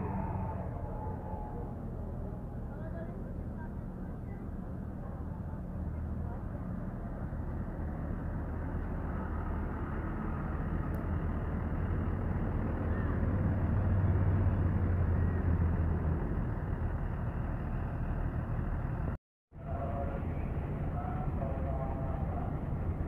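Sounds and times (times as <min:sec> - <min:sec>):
bus diesel engine idling: 0:00.0 - 0:23.0.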